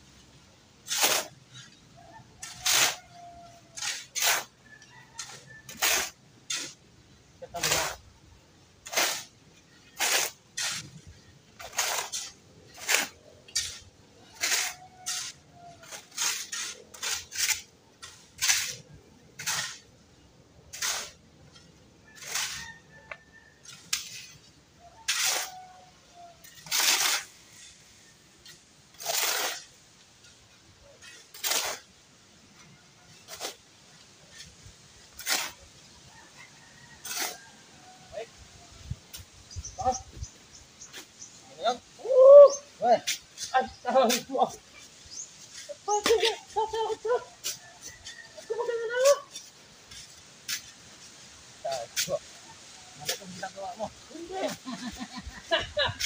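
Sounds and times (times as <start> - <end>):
shovel scraping concrete: 0.8 - 1.8, 2.4 - 8.0, 8.8 - 23.0, 23.6 - 36.0, 37.0 - 37.6, 42.8 - 56.0.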